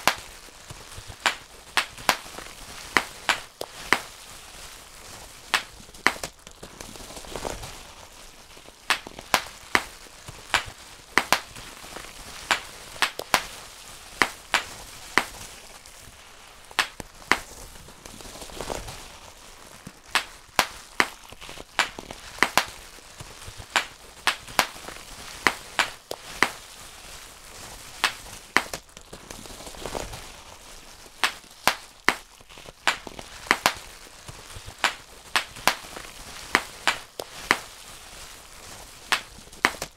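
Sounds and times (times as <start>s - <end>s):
bubble wrap popping: 0.0s - 39.9s
plastic sheet crinkling: 0.0s - 39.9s.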